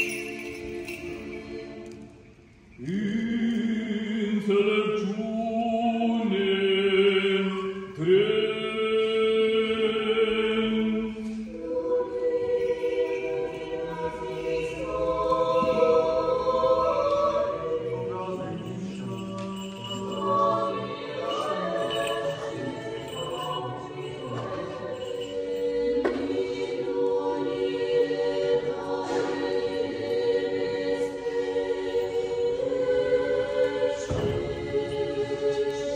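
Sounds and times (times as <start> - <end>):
choir singing a cappella: 0.0 - 35.9.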